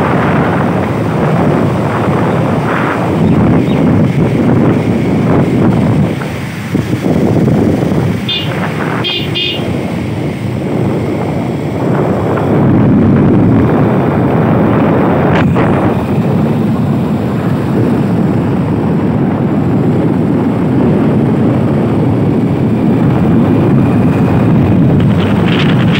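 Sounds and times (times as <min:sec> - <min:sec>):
vehicle rumble: 0:00.0 - 0:25.9
wind noise on microphone: 0:00.0 - 0:25.9.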